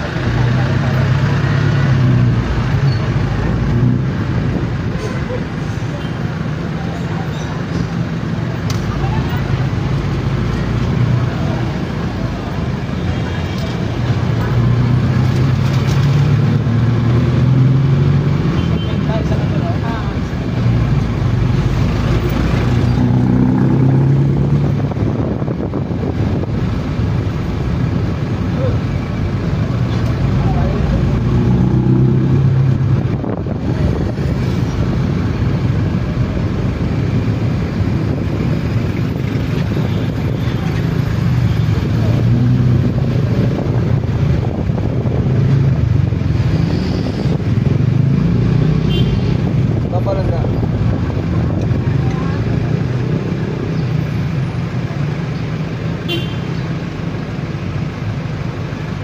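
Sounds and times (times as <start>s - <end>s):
street traffic noise: 0.0s - 59.0s
wind and travel noise: 0.0s - 59.0s.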